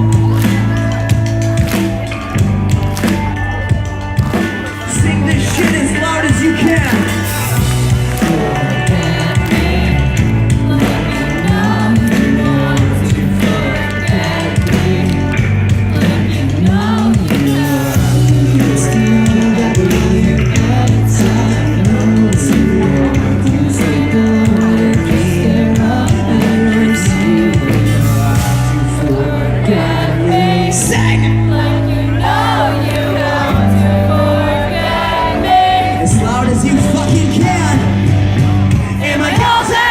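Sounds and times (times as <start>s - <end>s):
pop-punk band playing live: 0.0s - 39.9s
person singing: 3.8s - 38.0s.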